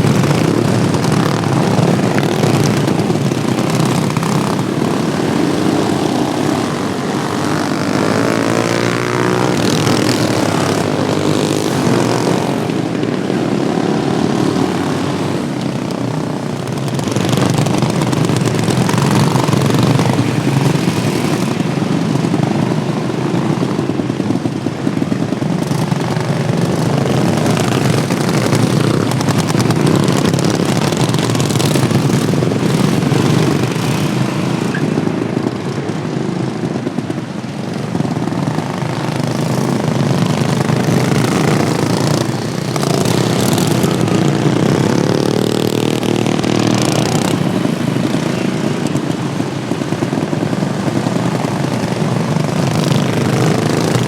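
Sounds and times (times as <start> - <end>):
racing lawnmower engines droning: 0.0 - 54.0.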